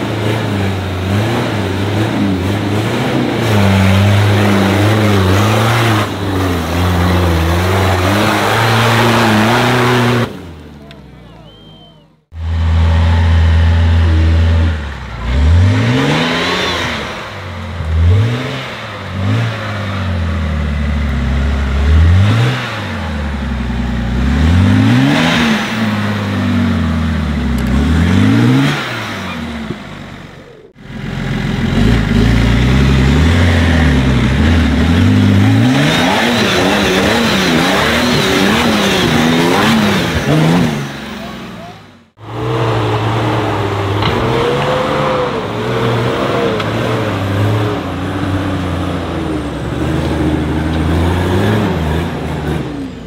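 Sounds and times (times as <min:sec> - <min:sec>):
engine revving hard: 0:00.0 - 0:10.6, 0:12.3 - 0:53.0.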